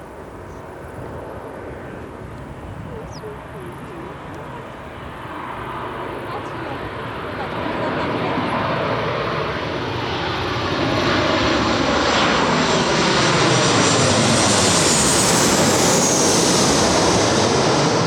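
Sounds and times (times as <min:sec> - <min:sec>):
jet engines roaring past: 0:00.0 - 0:18.0.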